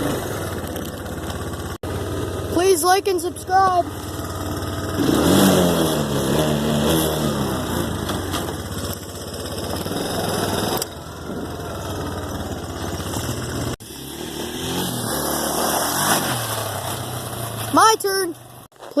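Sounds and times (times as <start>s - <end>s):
off-road vehicle engine revving: 0.0s - 18.7s.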